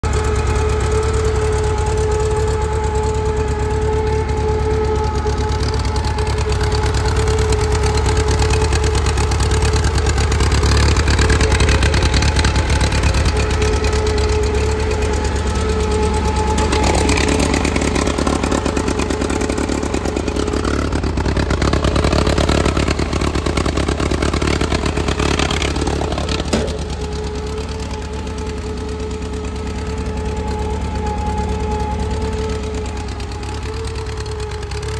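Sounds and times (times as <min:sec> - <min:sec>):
garden tractor engine running: 0:00.0 - 0:34.9.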